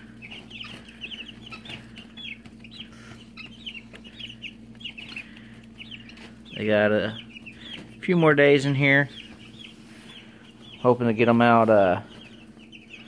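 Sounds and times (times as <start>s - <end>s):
chicks peeping: 0.0s - 13.0s
low steady hum: 0.0s - 13.0s.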